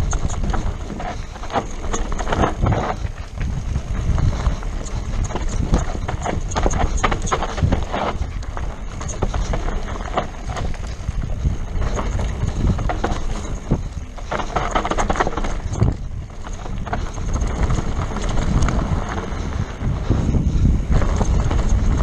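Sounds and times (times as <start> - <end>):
bike rattling over bumps: 0.0 - 22.0
tyres crunching over dirt: 0.0 - 22.0
wind rumbling on microphone: 0.0 - 22.0.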